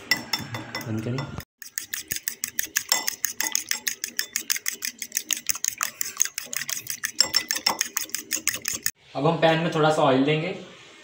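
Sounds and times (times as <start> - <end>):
fork whisking eggs in bowl: 0.1 - 9.0.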